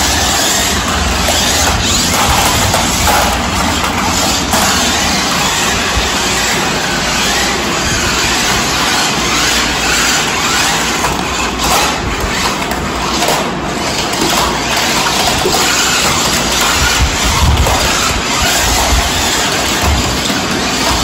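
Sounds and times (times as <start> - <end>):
toy car motors whirring: 0.0 - 21.0.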